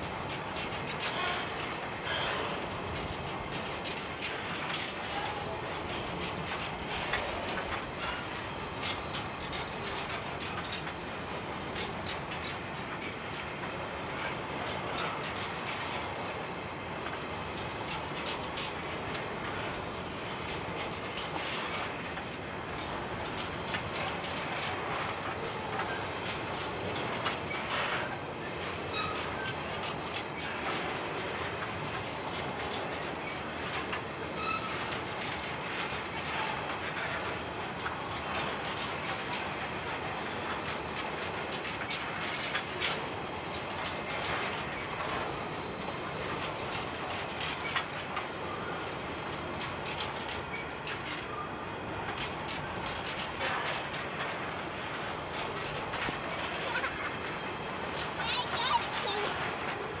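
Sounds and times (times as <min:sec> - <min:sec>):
steel wheels rumbling on rail: 0:00.0 - 1:00.0
wheels clicking over rail joints: 0:00.0 - 1:00.0.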